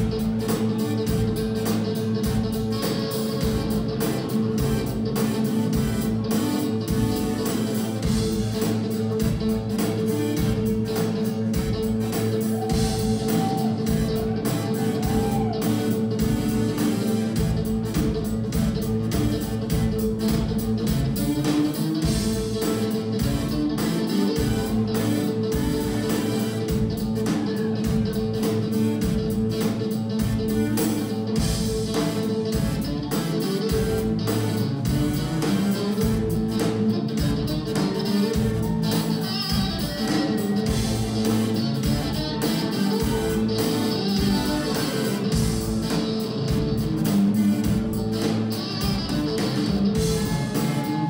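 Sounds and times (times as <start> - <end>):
funk band playing: 0.0 - 51.0.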